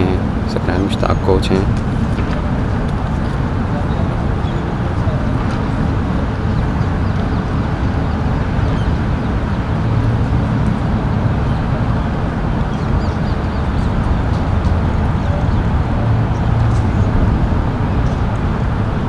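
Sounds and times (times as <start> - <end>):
loud low outdoor rumble: 0.0 - 19.0.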